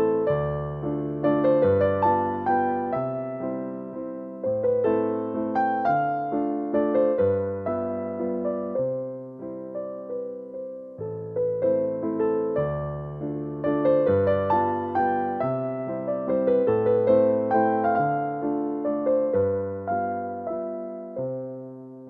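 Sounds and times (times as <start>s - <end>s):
gentle electric piano music: 0.0s - 22.0s.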